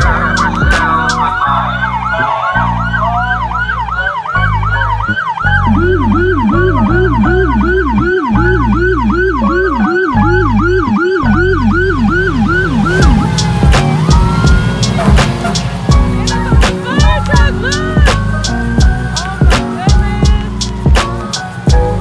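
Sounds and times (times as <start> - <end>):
lower yelping siren: 0.0 - 21.9
fire truck siren yelping: 0.0 - 22.0.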